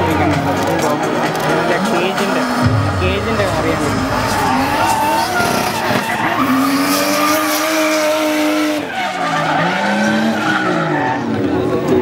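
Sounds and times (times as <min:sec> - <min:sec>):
car engine revving high: 0:00.0 - 0:10.9.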